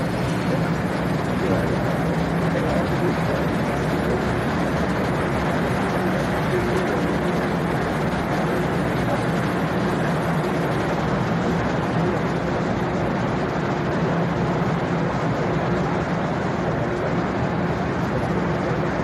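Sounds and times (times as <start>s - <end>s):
train equipment humming: 0.0s - 19.0s.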